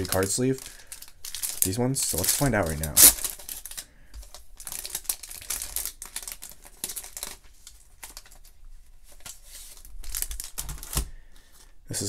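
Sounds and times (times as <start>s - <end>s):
plastic sleeve crinkling: 0.0s - 11.8s.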